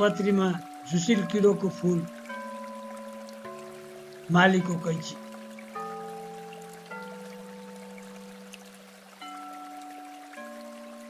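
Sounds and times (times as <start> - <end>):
slow music of held notes: 0.0 - 11.0.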